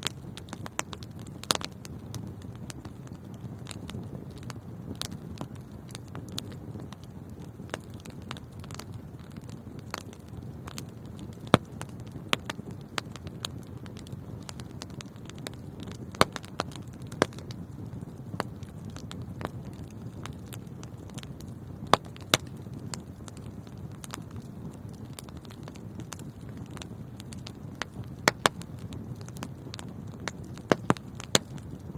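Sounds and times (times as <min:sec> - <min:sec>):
fire crackles and pops: 0:00.0 - 0:31.9
wood fire burning: 0:00.0 - 0:31.9.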